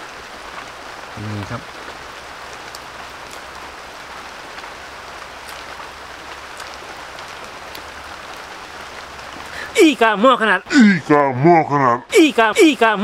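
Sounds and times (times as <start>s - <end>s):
raindrops ticking: 0.0s - 11.4s
light rain hissing: 0.0s - 13.0s.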